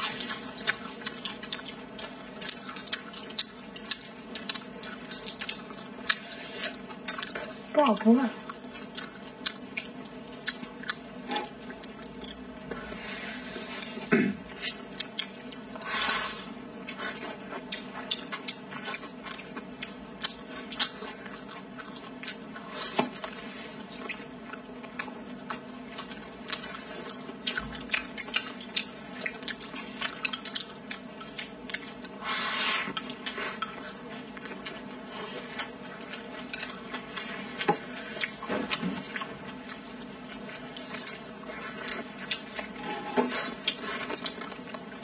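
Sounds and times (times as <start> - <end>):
wet chewing and lip-smacking: 0.0 - 32.2, 32.8 - 45.0
steady low hum: 0.0 - 45.0.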